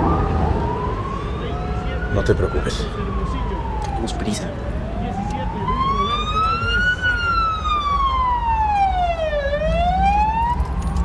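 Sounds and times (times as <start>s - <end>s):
engine and road rumble: 0.0s - 11.0s
police siren wailing: 0.0s - 11.0s.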